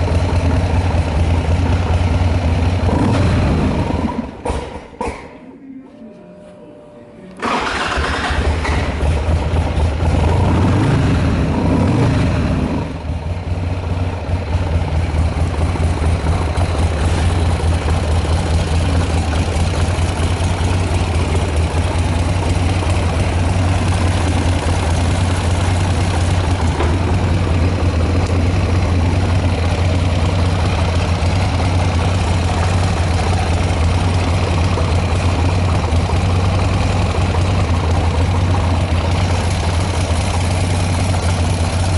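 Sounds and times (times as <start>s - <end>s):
motorcycle engine starting and idling: 0.0s - 5.4s, 7.3s - 41.9s.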